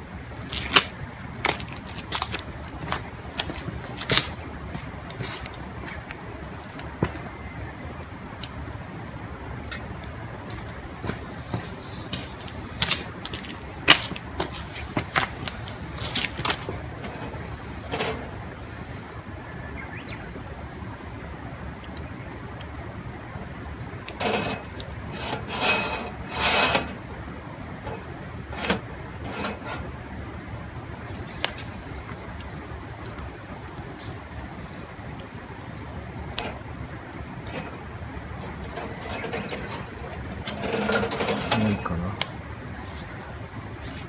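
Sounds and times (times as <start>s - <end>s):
camp cookware clinking and scraping: 0.5s - 7.7s, 8.4s - 18.9s, 23.9s - 34.2s, 35.4s - 44.0s.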